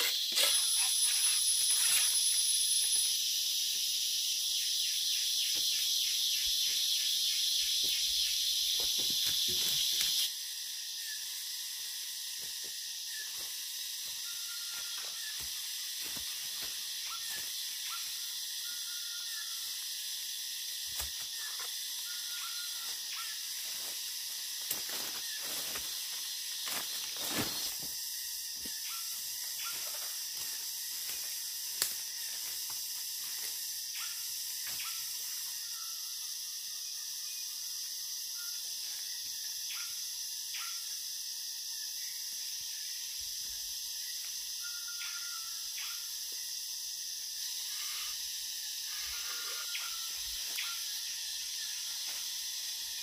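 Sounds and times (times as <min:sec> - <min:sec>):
rainforest insects droning: 0:00.0 - 0:53.0.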